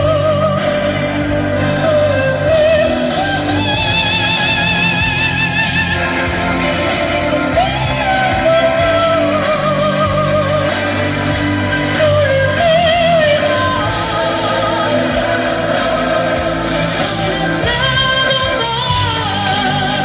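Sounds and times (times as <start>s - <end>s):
instrumental backing music: 0.0s - 20.0s
person singing with vibrato: 0.0s - 20.0s.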